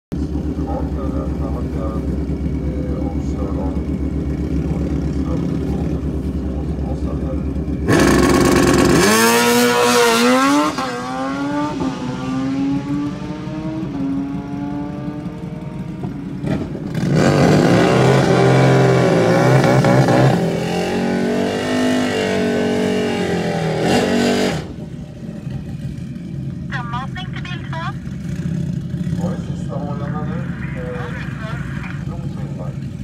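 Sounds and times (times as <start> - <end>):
motorcycle engine accelerating: 0.1 - 33.0
motorcycle revving for burnout: 0.2 - 33.0.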